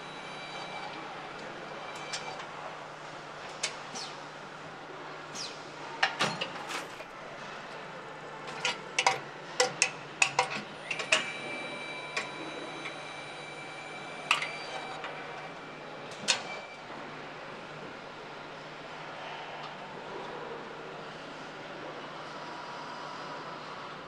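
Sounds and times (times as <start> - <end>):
steady machine hum: 0.0 - 6.0, 7.1 - 21.4.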